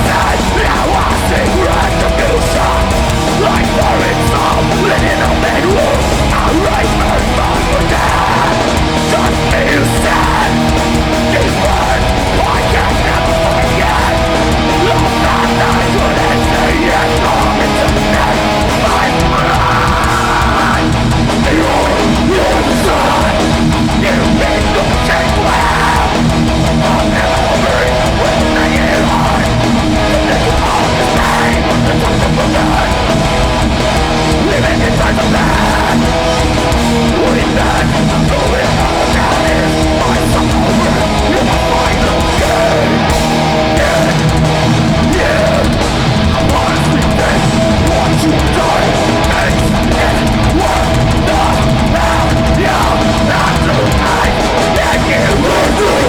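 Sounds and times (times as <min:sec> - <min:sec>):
electric guitars: 0:00.0 - 0:56.0
metal band playing live: 0:00.0 - 0:56.0.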